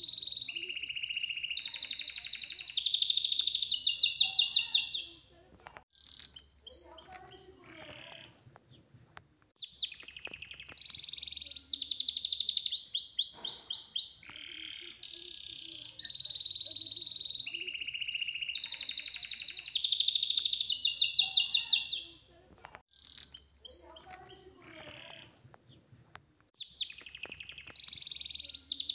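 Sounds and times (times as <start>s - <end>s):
high-pitched bird chirps and trills: 0.0s - 5.3s, 5.9s - 8.4s, 9.6s - 22.2s, 22.9s - 25.8s, 26.6s - 28.9s.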